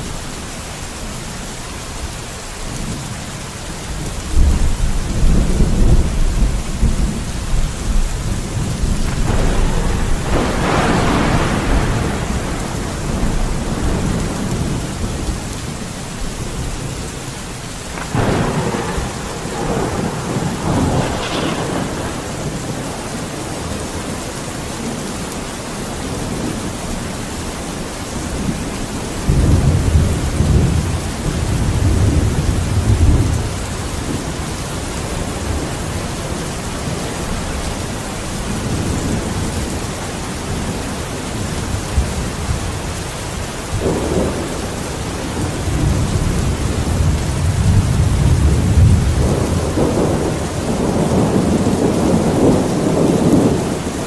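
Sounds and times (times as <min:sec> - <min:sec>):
steady rain: 0:00.0 - 0:54.0
thunder rumbling: 0:03.8 - 0:25.4, 0:26.0 - 0:54.0.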